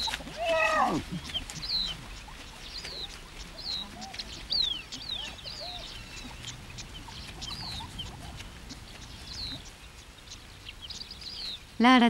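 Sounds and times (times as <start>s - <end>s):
bird chips: 0.0s - 11.8s
birds whistling: 0.0s - 11.8s.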